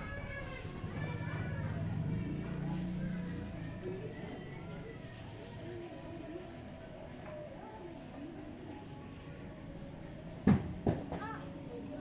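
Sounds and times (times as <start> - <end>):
low background murmur: 0.0 - 12.0.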